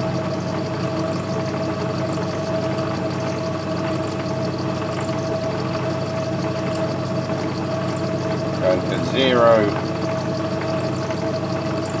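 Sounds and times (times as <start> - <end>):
constant whining tone: 0.0 - 12.0
lathe machine hum: 0.0 - 12.0.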